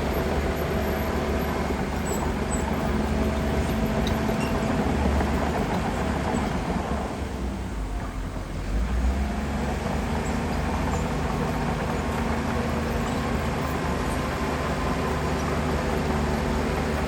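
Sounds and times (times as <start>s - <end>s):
diesel machine engine rumble: 0.0s - 17.0s.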